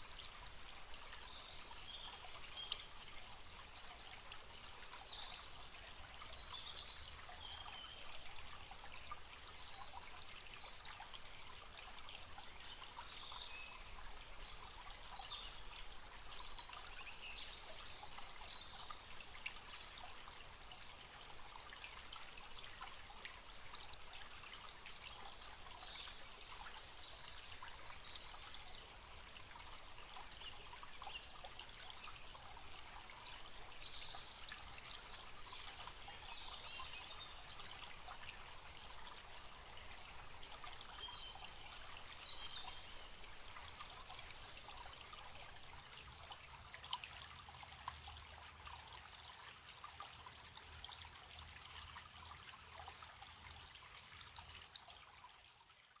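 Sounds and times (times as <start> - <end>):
forest stream babbling: 0.0 - 56.0.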